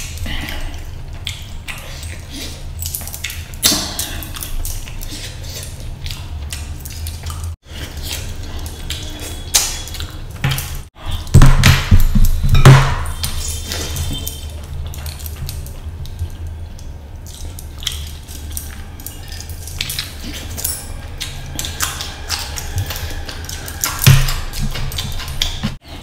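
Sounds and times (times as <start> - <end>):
wet chewing and lip-smacking: 0.0 - 10.9, 13.1 - 26.0.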